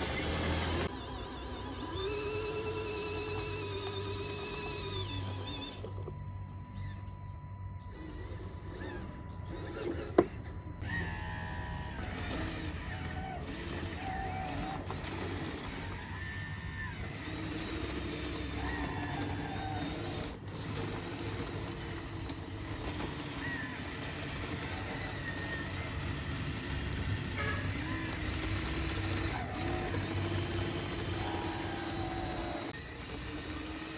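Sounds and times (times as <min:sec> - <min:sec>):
electric motors whining: 0:00.0 - 0:33.9.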